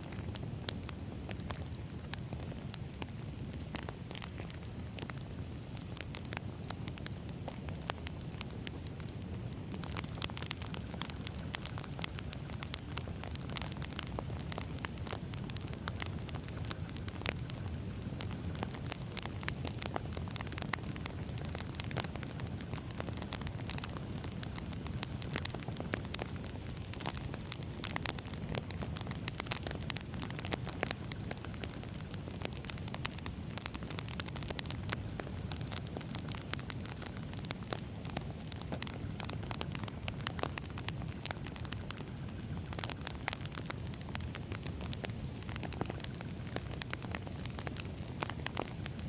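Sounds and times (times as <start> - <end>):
fire low rumble: 0.0 - 49.0
firewood crackling and popping: 0.0 - 49.0.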